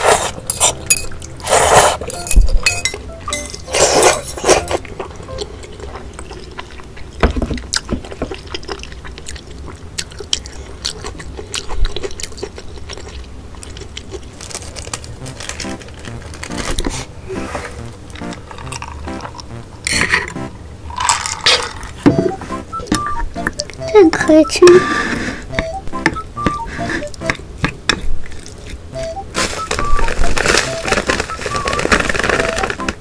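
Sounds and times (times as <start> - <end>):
person chewing: 0.0 - 2.6, 3.4 - 20.4, 25.5 - 32.7.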